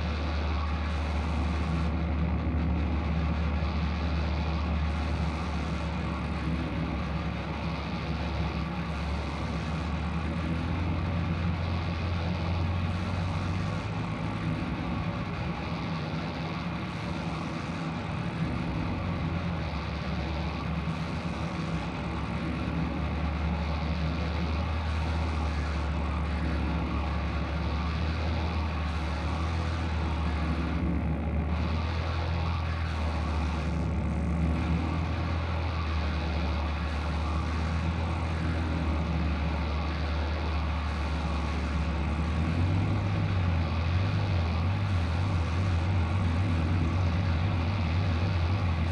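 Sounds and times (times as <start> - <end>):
dense wash of noise: 0.0 - 48.9
low drone: 0.0 - 48.9.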